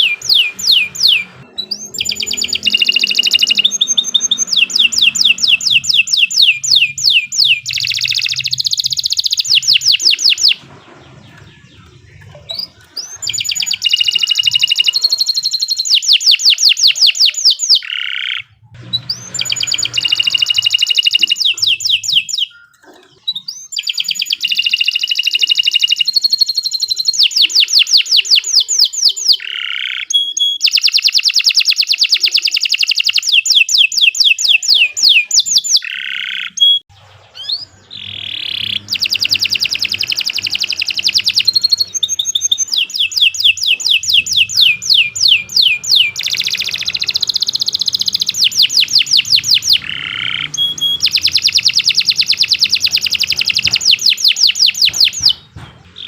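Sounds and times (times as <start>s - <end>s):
canary singing rolling trills: 0.0s - 56.0s.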